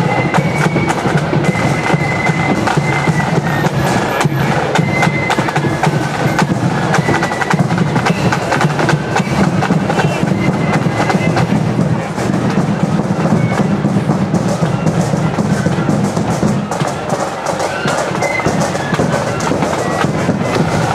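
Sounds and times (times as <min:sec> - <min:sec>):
flute tune: 0:00.0 - 0:20.9
snare drum rolls: 0:00.0 - 0:20.9.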